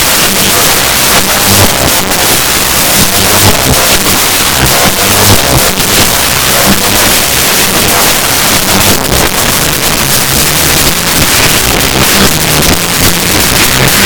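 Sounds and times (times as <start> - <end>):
distorted bass-boosted music: 0.0 - 14.0.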